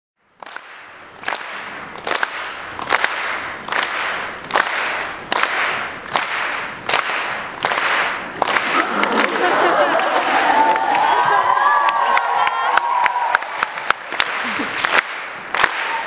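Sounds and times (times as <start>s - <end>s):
audience noise: 0.3s - 16.0s.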